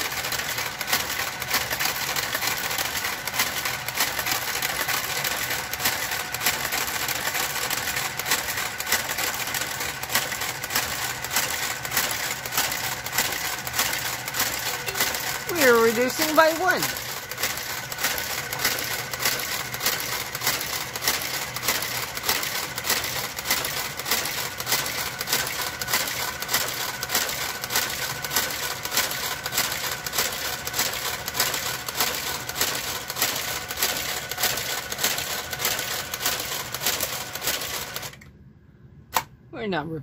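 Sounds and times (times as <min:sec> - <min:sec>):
knitting machine carriage clicking: 0:00.0 - 0:38.3.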